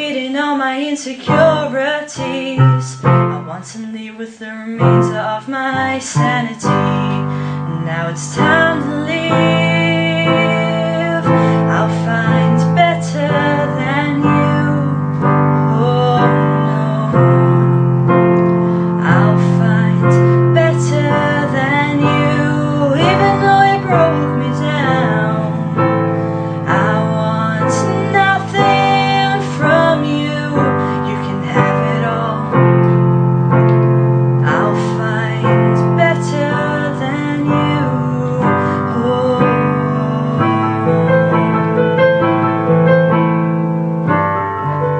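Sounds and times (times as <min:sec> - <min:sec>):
piano-led song: 0:00.0 - 0:44.9.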